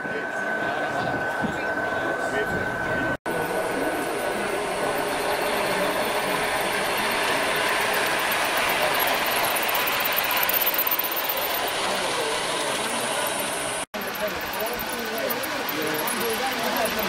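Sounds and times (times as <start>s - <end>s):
model train gear drive whirring: 3.3s - 17.0s
wheels clicking on track: 3.3s - 17.0s.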